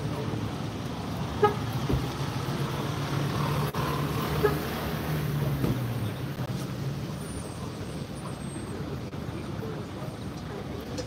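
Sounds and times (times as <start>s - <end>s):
road traffic engine hum: 0.0s - 11.0s.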